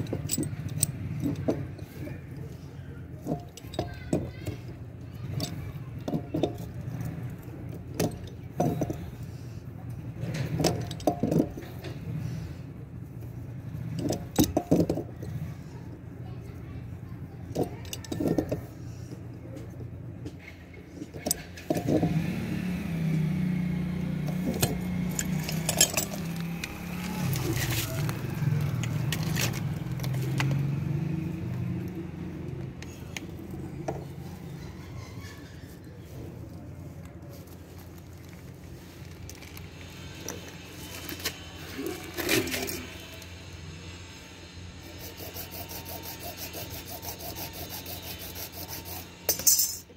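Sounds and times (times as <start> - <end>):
engine humming: 0.0 - 49.9.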